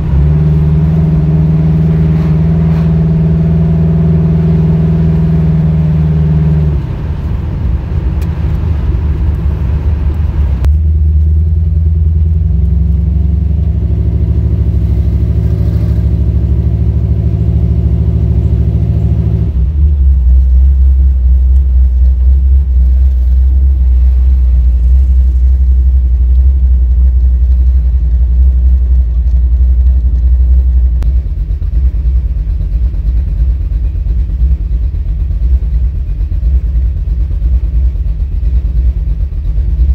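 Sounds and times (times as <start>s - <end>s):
engine running loud: 0.0s - 39.9s.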